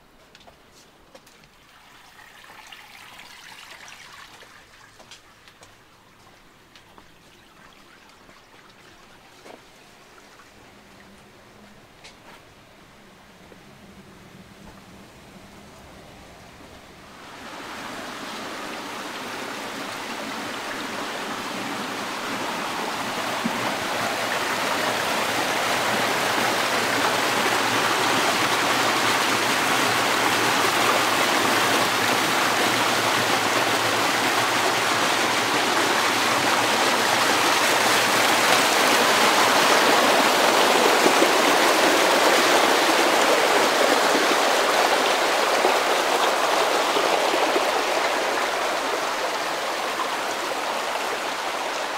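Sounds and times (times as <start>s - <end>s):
stream water rushing: 1.5s - 11.6s, 14.9s - 51.9s.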